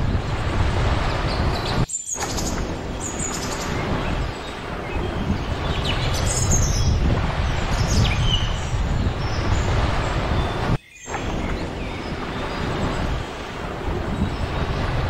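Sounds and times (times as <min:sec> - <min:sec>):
small waves washing onto sand: 0:00.0 - 0:15.0
wind rumbling on microphone: 0:00.0 - 0:15.0.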